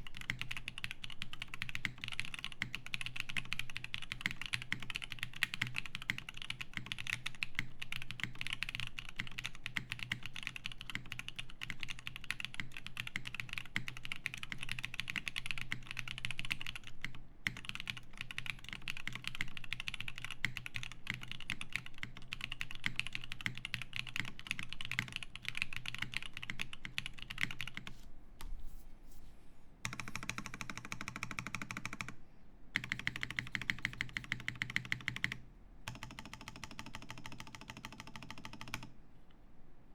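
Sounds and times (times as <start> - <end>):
fast mechanical keyboard typing: 0.0 - 27.9, 29.8 - 32.2, 32.8 - 38.9.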